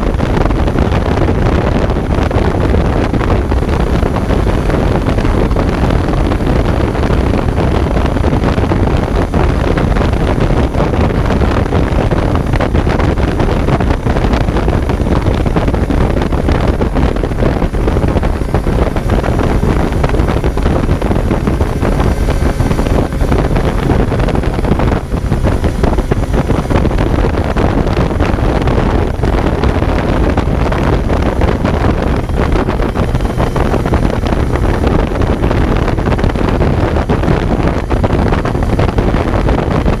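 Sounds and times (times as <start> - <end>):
motorcycle engine running: 0.0 - 40.0
wind noise on microphone: 0.0 - 40.0.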